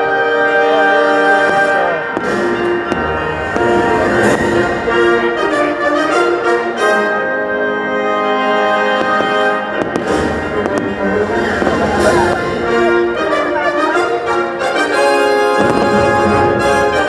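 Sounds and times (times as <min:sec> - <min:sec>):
orchestral music with brass chords: 0:00.0 - 0:17.0.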